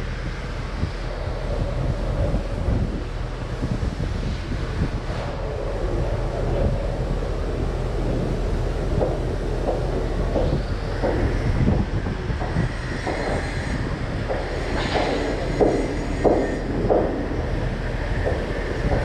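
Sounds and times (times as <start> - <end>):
heavy machinery rumbling: 0.0 - 19.0.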